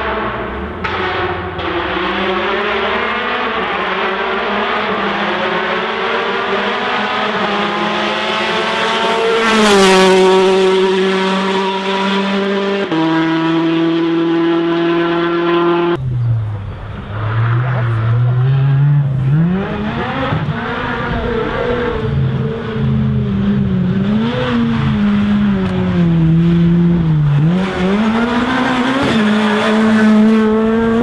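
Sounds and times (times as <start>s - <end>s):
rally car engine passing: 0.0s - 31.0s.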